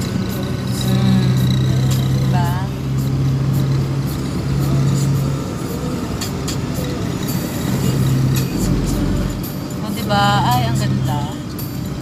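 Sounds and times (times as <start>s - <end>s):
low drone: 0.0s - 11.4s
engine hum and road noise: 0.0s - 12.0s.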